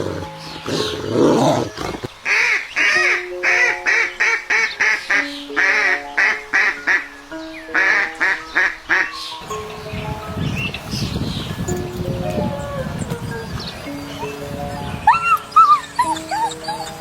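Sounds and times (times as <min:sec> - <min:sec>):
background music with held notes: 0:00.0 - 0:17.0.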